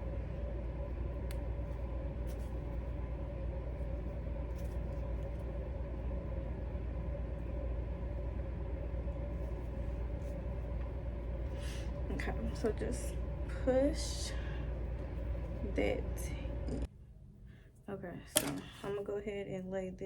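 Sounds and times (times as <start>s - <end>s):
low rumbling hum with whine: 0.0s - 20.0s.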